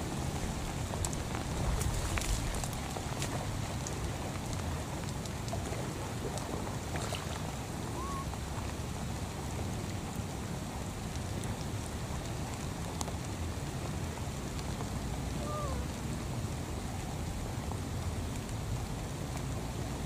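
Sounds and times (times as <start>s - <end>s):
rain falling on water and grass: 0.0s - 20.0s.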